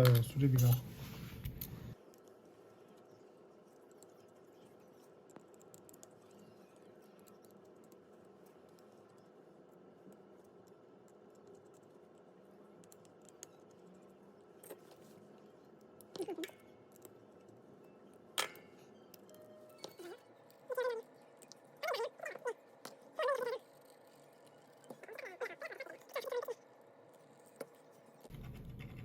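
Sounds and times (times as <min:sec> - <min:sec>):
faint room hum: 0:00.0 - 0:29.0.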